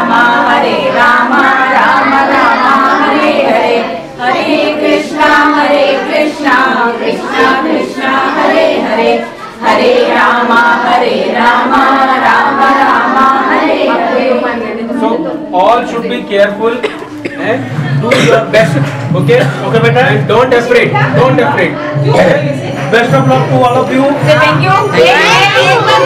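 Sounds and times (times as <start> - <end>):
children and women singing a prayer: 0.0 - 19.5, 20.8 - 26.0.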